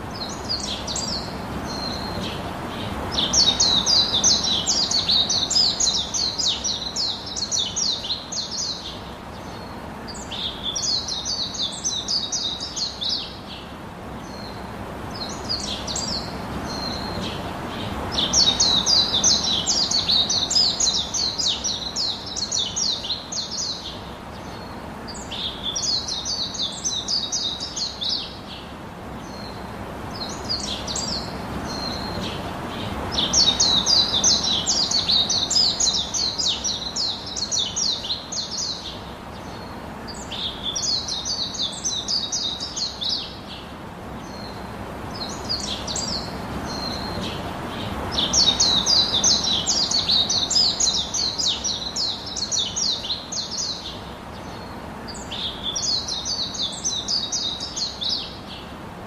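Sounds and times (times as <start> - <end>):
birds chirping rapidly: 0.0 - 58.9
low background hiss: 0.0 - 59.0.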